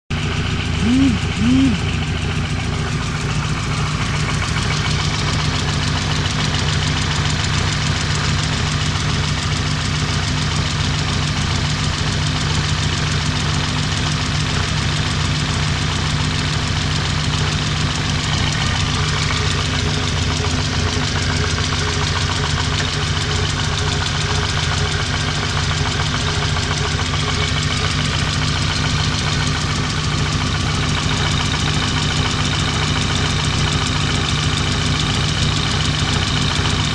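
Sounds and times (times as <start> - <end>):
engine idling with dull knock: 0.1 - 36.9.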